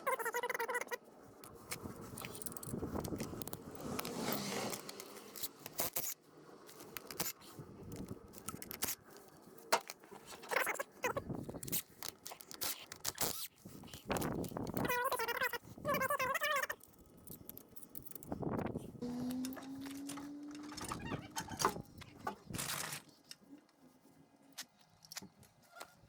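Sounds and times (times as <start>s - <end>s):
scraping and clicking of parts: 1.4s - 15.4s, 16.7s - 23.8s.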